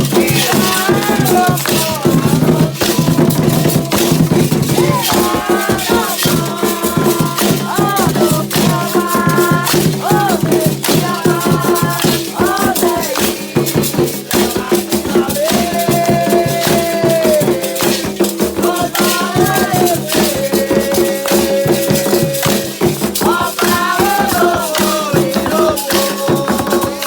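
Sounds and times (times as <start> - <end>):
shaken rattles and percussion: 0.0 - 27.0
voices chanting: 0.0 - 27.0.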